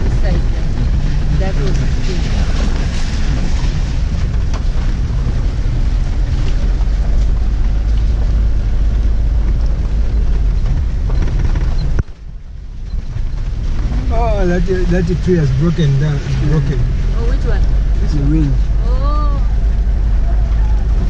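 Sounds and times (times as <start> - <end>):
rain hitting car body: 0.0 - 19.0
engine and tyres rumbling: 0.0 - 21.0.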